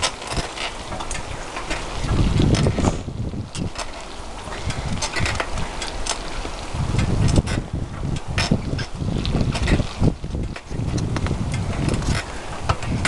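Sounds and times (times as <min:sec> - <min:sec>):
bicycle squeaking and clicking: 0:00.0 - 0:13.0
wind buffeting microphone: 0:00.0 - 0:13.0.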